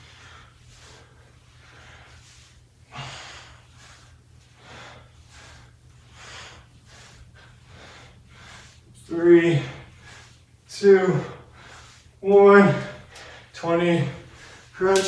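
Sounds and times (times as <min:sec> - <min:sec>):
man breathing hard: 0:00.0 - 0:14.8.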